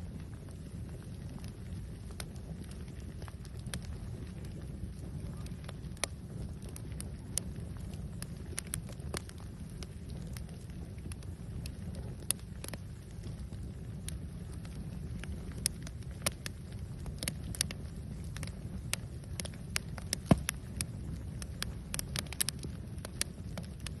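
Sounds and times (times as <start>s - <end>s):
fire crackling: 0.0s - 24.0s.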